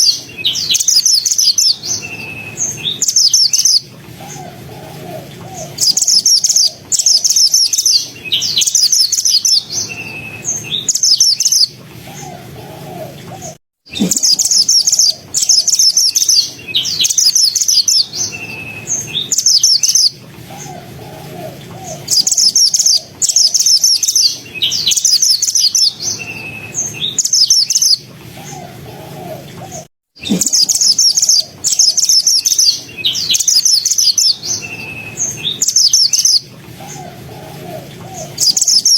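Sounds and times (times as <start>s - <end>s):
songbird singing trilled phrases: 0.0s - 12.5s, 13.4s - 20.9s, 21.5s - 38.9s.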